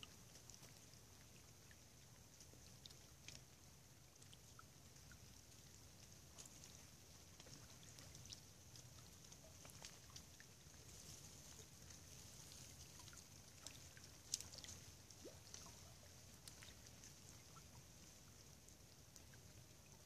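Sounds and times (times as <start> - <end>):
small ticks: 0.0 - 20.0
soft hiss and low rumble: 0.0 - 20.0.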